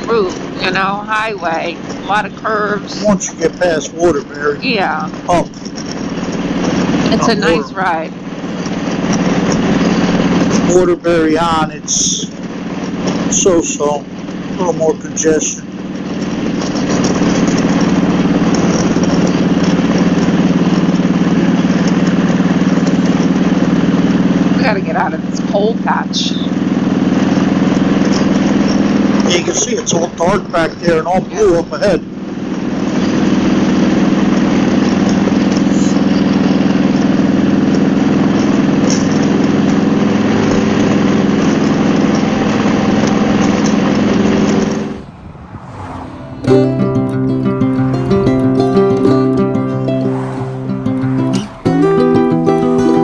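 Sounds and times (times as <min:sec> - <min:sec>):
heavy wind and road noise: 0:00.0 - 0:53.0
motorcycle engine droning: 0:00.0 - 0:53.0.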